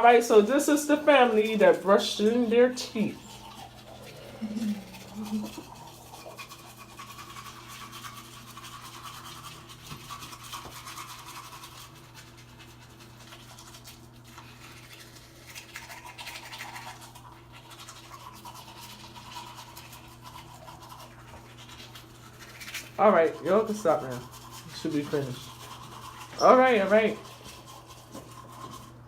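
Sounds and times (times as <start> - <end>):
steady low hum: 0.0 - 29.0
toothbrushes scrubbing teeth: 0.0 - 29.0.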